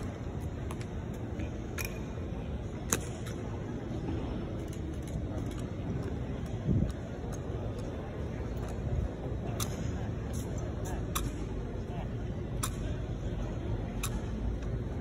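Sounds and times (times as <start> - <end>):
low hum of arena: 0.0 - 15.0.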